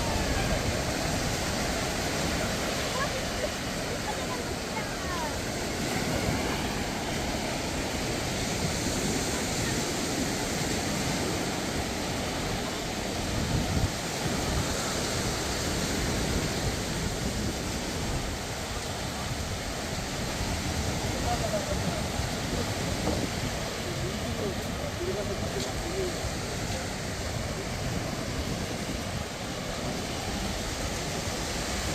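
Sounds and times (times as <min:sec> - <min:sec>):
surf washing onto beach: 0:00.0 - 0:31.9
wind rumbling on microphone: 0:00.0 - 0:31.9.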